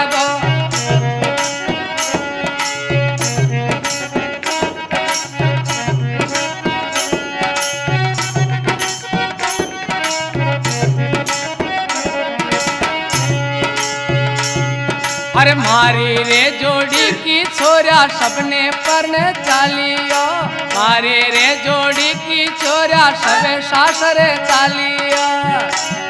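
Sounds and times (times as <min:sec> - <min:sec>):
held melody line: 0:00.0 - 0:26.0
steady drum beat: 0:00.5 - 0:26.0.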